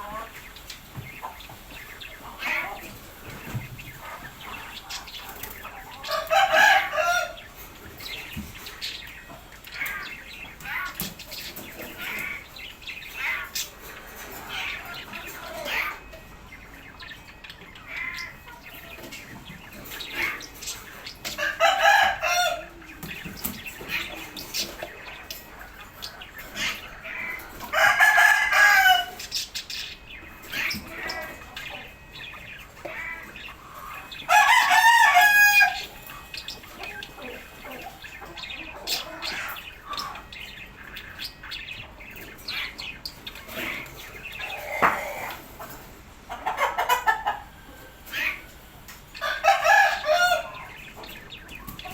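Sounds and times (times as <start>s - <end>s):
loud drawn-out bird calls: 0.0s - 45.8s.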